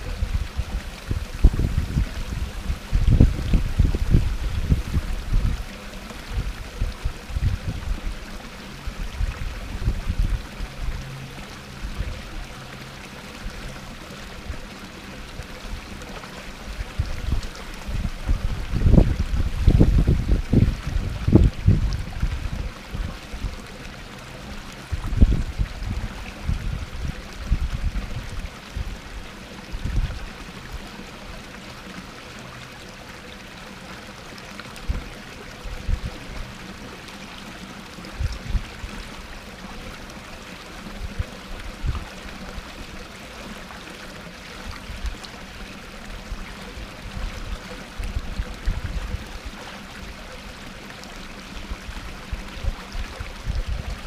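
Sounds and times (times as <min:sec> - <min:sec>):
waterfall splashing into pond: 0:00.0 - 0:54.0.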